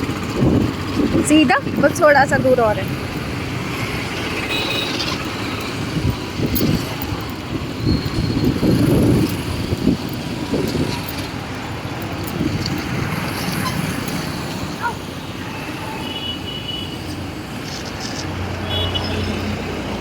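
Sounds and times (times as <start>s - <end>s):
engine hum: 0.0s - 16.3s
road traffic passing: 0.0s - 20.0s.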